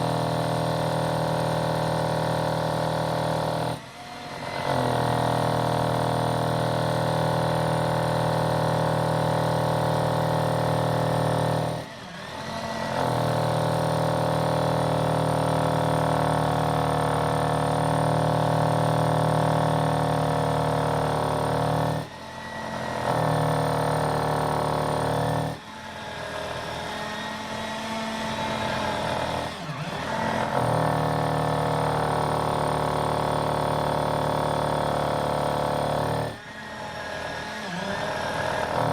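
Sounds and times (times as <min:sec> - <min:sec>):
electric drill boring into concrete: 0:00.0 - 0:38.9.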